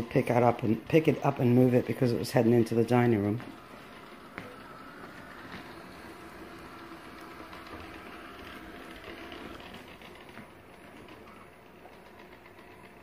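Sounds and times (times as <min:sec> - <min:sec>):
robot vacuum motor hum: 0:00.7 - 0:13.0.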